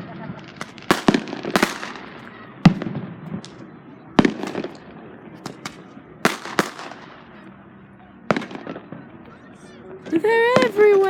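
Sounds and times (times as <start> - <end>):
fireworks bursting: 0.0 - 9.4, 10.1 - 11.0.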